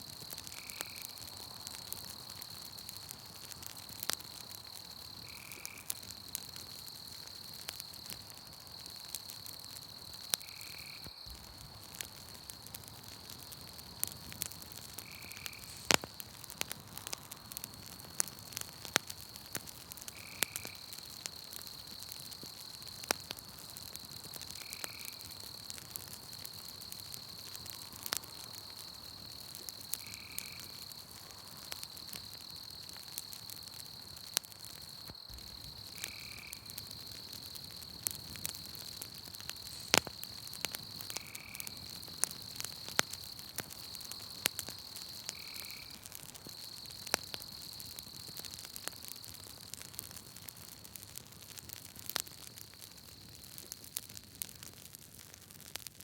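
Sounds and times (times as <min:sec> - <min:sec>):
night insects droning: 0:00.0 - 0:54.5
campfire crackling and popping: 0:00.0 - 0:56.0.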